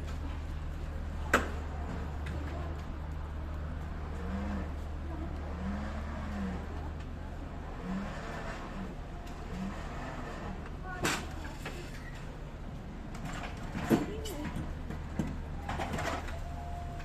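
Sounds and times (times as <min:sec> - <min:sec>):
vehicle engine idling: 0:00.0 - 0:13.7.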